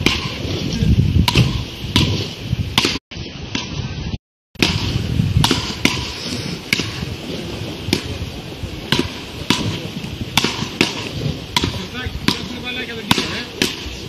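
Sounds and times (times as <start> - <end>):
paddle rackets hitting ball: 0.0 - 3.8, 4.6 - 14.0.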